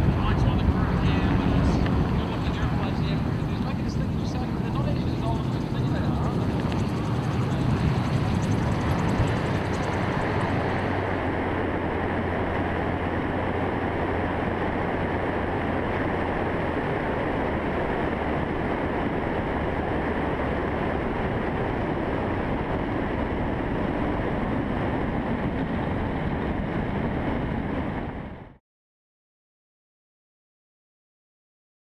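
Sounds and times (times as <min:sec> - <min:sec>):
aircraft engine and propeller: 0:00.0 - 0:28.6
wind rush on microphone: 0:00.0 - 0:28.6.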